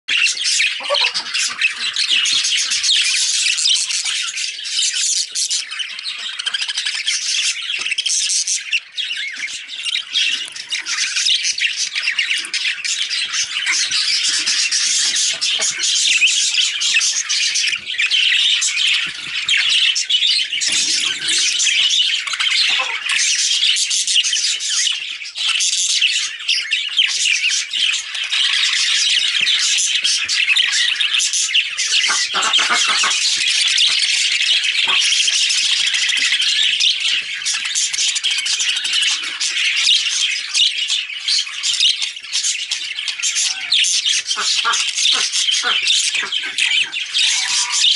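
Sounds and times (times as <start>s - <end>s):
budgerigars chattering and squawking: 0.1s - 47.9s.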